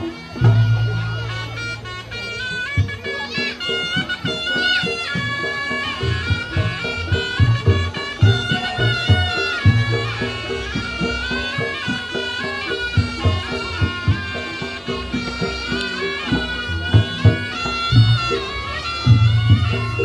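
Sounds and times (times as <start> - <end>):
drum strokes: 0.0 - 20.0
pitched percussion notes: 0.0 - 20.0
shawm melody: 0.0 - 20.0.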